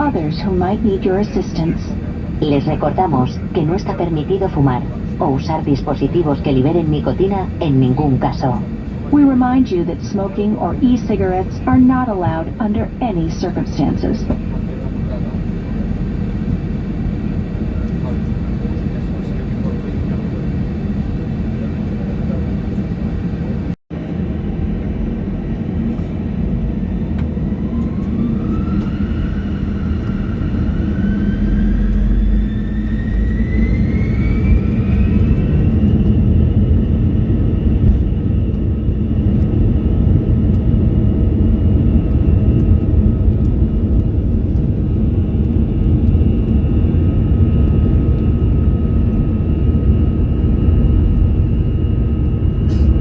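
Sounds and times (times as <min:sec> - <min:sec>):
jet engine rumble: 0:00.0 - 0:53.0
jet engine whine: 0:00.0 - 0:53.0.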